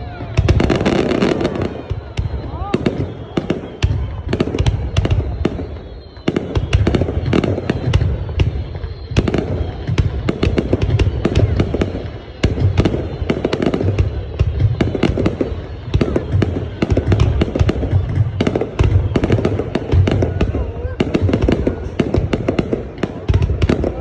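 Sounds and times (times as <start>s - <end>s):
fireworks cracking and banging: 0.0s - 24.0s.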